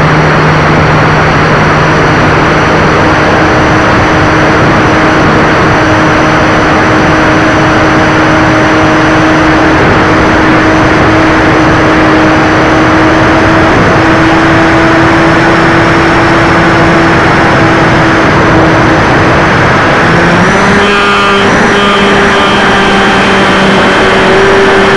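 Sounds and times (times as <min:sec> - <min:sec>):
model plane propeller drone: 0:00.0 - 0:24.9
wind rush over microphone: 0:00.0 - 0:24.9.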